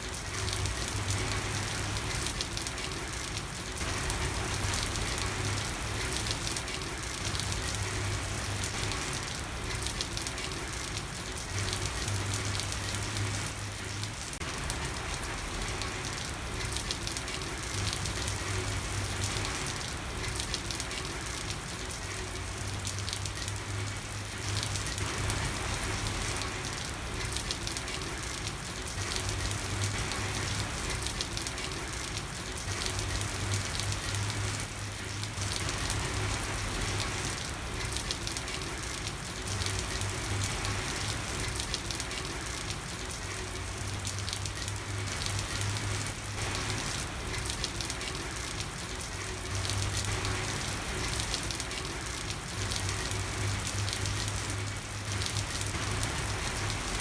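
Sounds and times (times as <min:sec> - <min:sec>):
rain falling on a street: 0:00.0 - 0:57.0.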